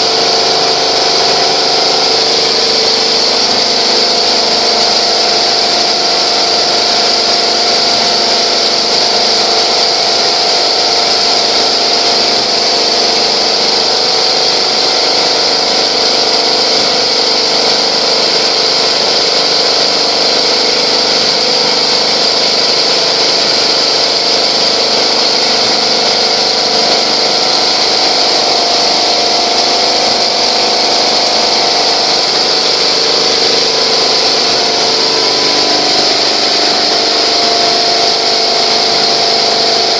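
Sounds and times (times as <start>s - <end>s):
quilting machine whirring: 0.0s - 39.9s.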